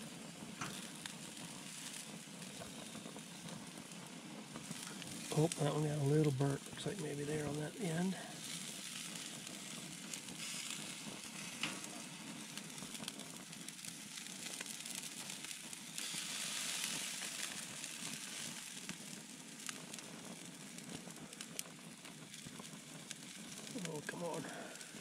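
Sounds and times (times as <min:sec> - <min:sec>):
meat sizzling on a grill: 0:00.0 - 0:25.0.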